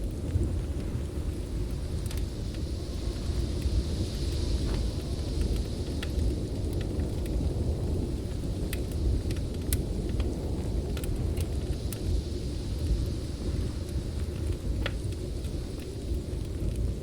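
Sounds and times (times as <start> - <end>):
deep roar of storm wind: 0.0 - 17.0
wood fire popping and crackling: 0.0 - 17.0.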